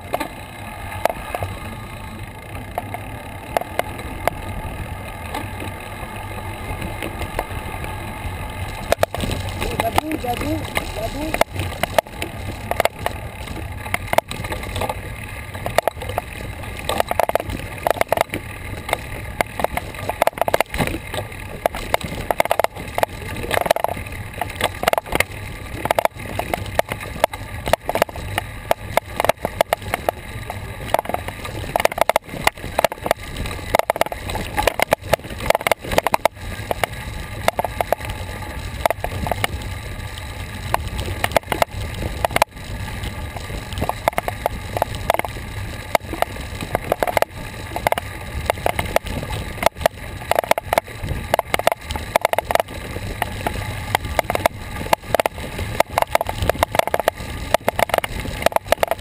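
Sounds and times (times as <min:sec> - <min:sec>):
bicycle rolling rumble: 0:00.0 - 0:59.0
bike rattling clicks and knocks: 0:00.0 - 0:59.0.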